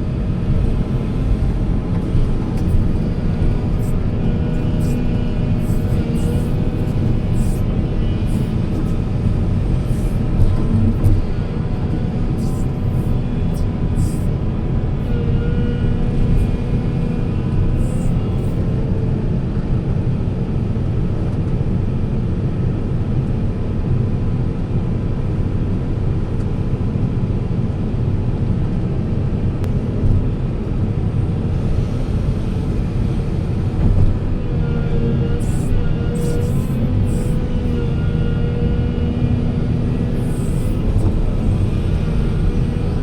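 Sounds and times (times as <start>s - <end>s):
heavy machinery diesel engine: 0.0s - 43.0s.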